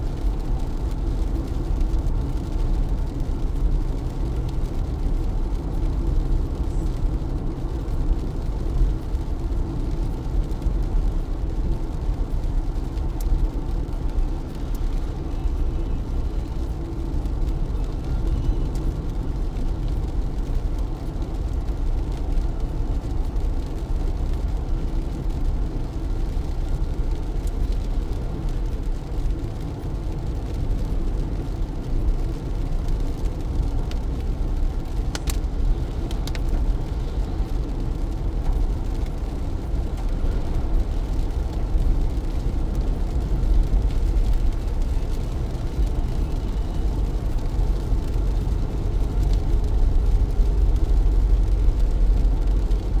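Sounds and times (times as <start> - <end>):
car road and engine rumble: 0.0 - 53.0
rain hiss: 0.0 - 53.0.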